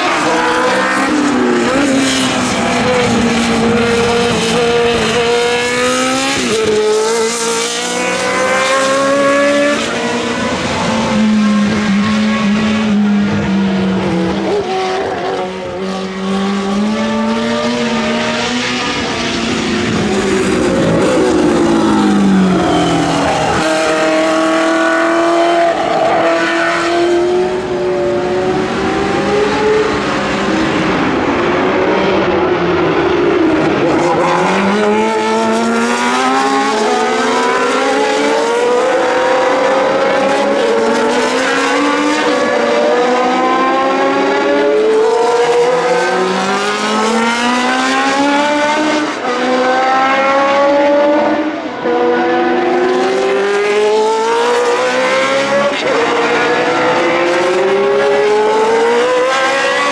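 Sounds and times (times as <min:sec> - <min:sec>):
racing cars passing at speed: 0:00.0 - 0:59.9.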